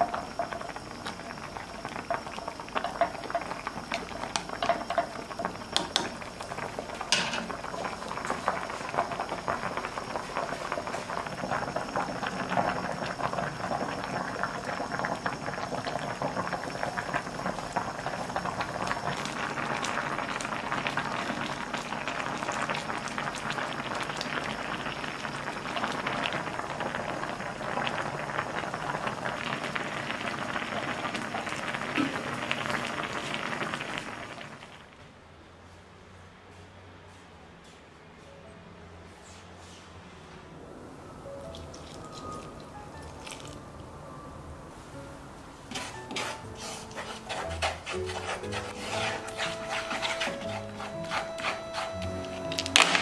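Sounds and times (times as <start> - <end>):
broth boiling with popping bubbles: 0.0 - 35.0, 41.4 - 43.9, 45.7 - 53.0.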